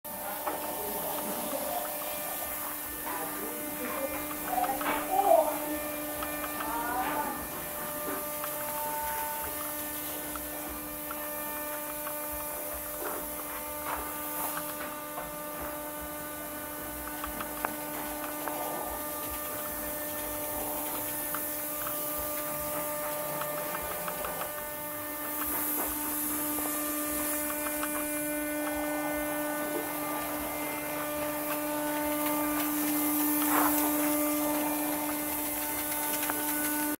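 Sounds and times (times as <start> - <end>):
motor hum: 0.1 - 36.9
spray gun air hiss: 0.1 - 36.9.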